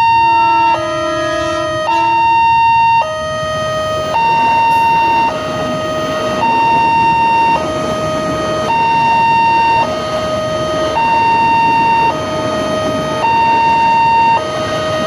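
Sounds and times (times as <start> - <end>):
two-tone level crossing alarm: 0.0 - 15.0.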